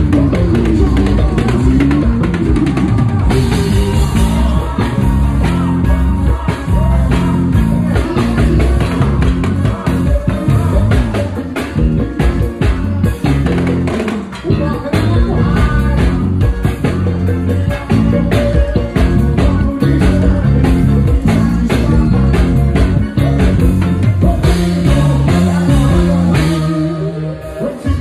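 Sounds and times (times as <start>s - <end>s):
drum kit beats: 0.0s - 28.0s
electric bass line: 0.0s - 28.0s.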